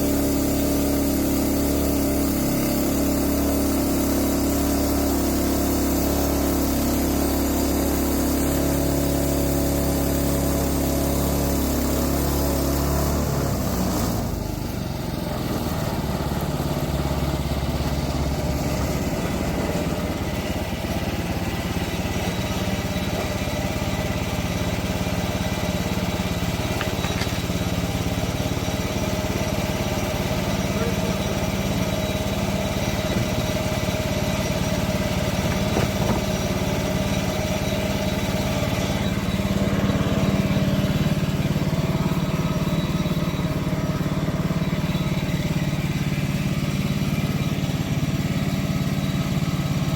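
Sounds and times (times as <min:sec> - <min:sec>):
sawmill gasoline engine running: 0:00.0 - 0:49.9.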